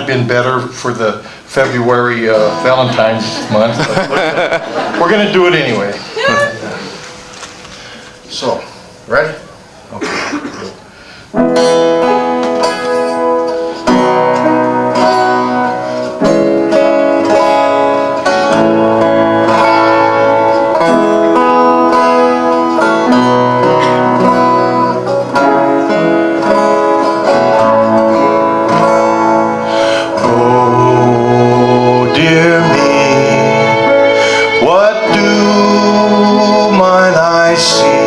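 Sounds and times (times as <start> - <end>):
acoustic folk band playing: 0.0 - 38.0.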